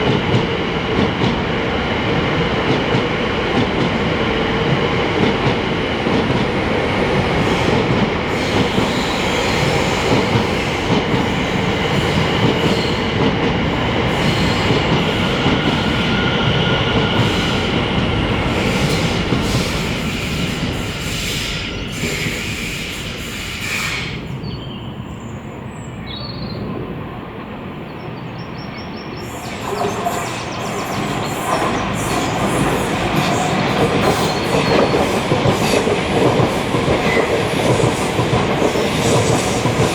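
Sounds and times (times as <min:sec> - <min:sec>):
wheels clickety-clack on track: 0:00.0 - 0:22.6, 0:29.2 - 0:39.9
electric train passing: 0:00.0 - 0:26.0, 0:26.6 - 0:39.9.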